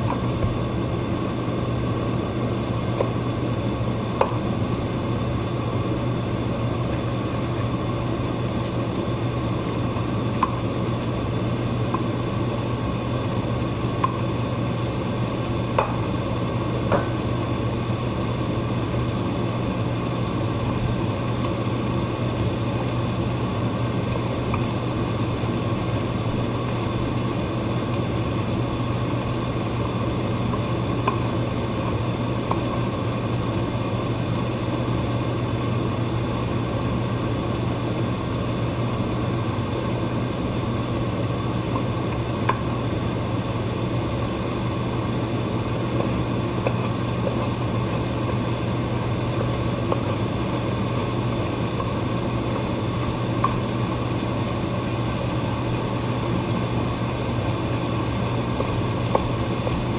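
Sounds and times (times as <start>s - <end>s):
steady hum and hiss: 0.0s - 59.9s.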